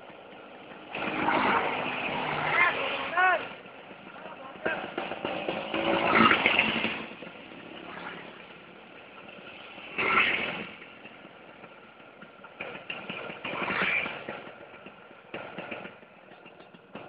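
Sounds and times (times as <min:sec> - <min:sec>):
motor scooters passing: 0:00.0 - 0:17.0.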